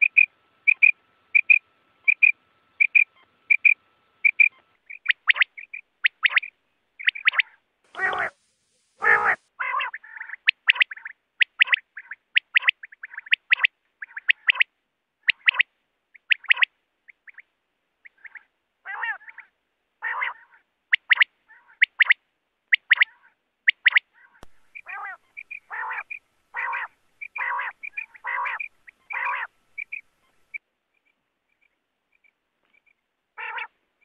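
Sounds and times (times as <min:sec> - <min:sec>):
quails calling: 0:00.0 - 0:08.4, 0:09.0 - 0:30.6, 0:32.1 - 0:33.8.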